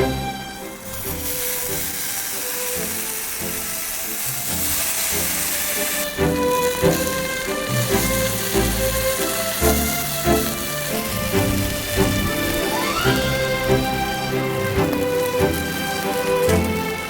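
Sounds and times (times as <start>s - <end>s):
background music: 0.0s - 17.0s
food sizzling over fire: 0.0s - 17.0s.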